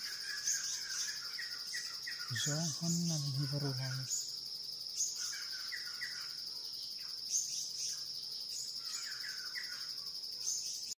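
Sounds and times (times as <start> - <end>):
bird chirps: 0.0 - 10.9
high-pitched insect drone: 0.0 - 10.9.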